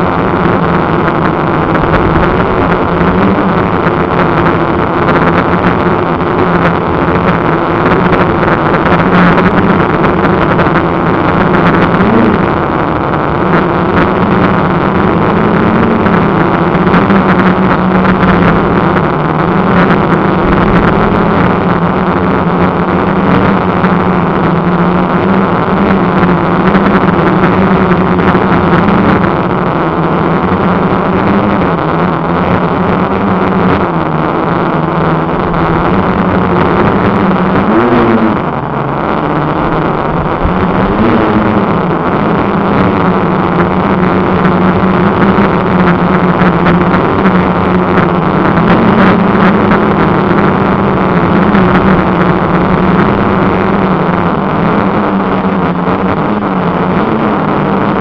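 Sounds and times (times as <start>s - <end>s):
drone motors buzzing: 0.0s - 58.0s
rush of air: 0.0s - 58.0s.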